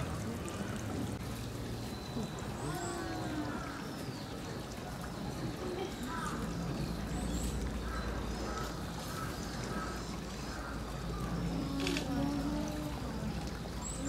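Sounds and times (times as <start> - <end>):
distant crowd chatter: 0.0 - 14.0.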